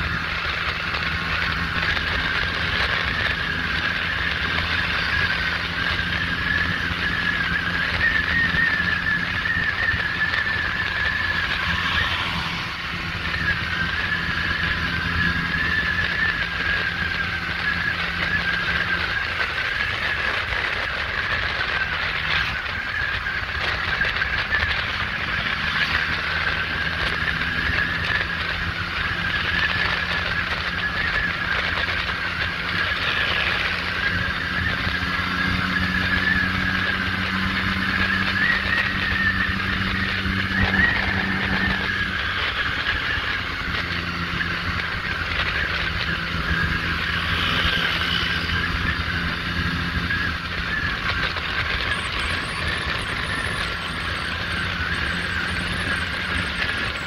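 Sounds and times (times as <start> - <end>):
road and wind noise: 0.0 - 57.0
scooter engine whine: 0.0 - 57.0.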